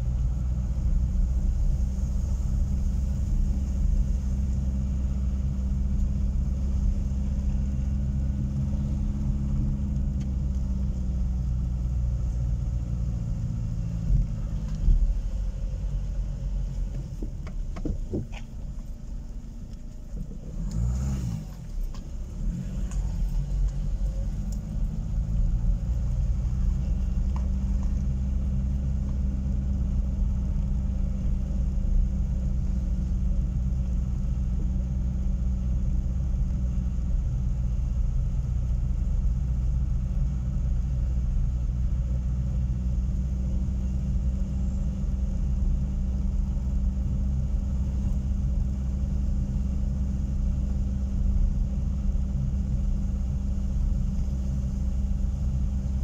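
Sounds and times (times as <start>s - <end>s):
car engine: 0.0s - 56.0s
road rumble: 0.0s - 56.0s.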